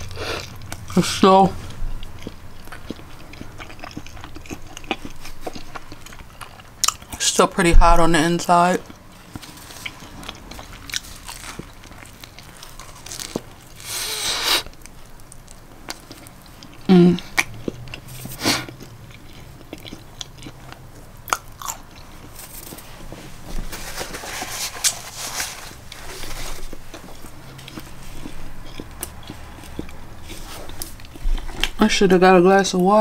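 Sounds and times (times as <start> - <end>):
chewing and mouth smacks: 0.0 - 7.3, 8.8 - 13.9, 14.6 - 23.2, 25.9 - 32.2.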